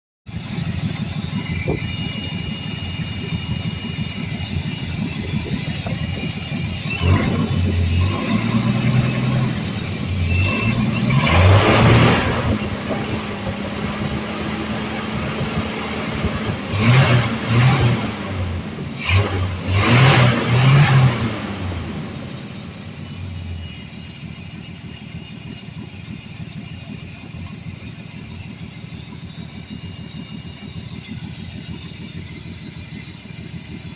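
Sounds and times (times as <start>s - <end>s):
truck engine revving and idling: 0.3s - 33.9s.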